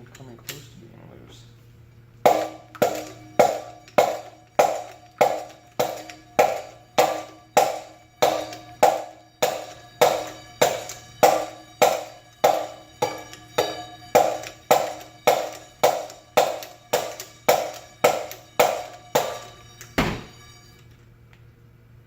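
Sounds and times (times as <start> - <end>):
hammer striking metal: 2.3 - 20.8.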